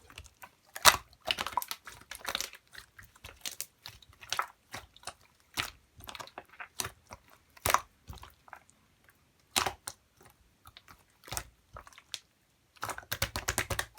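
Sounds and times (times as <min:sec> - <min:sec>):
slime squished by hand: 0:00.0 - 0:08.8, 0:09.4 - 0:13.9.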